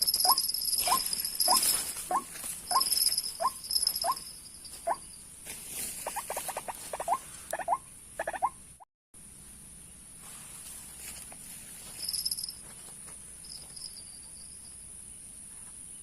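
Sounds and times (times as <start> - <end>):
high insect drone: 0.0 - 8.1, 9.4 - 16.0.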